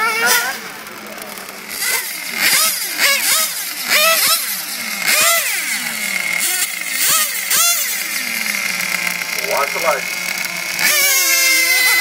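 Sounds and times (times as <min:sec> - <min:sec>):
model car engines revving: 0:00.0 - 0:12.0.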